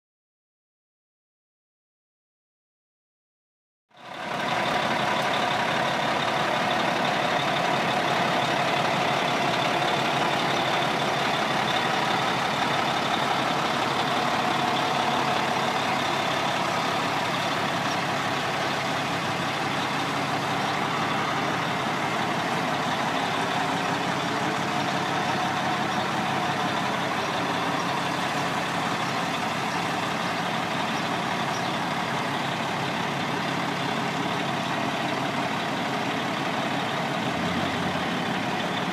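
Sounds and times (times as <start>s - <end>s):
diesel truck engine idling: 3.9s - 38.9s.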